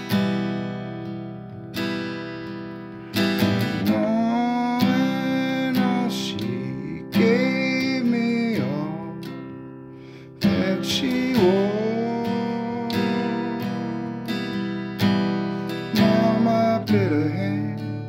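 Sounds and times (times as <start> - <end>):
strummed acoustic guitar: 0.0 - 18.0
man singing: 3.4 - 18.0.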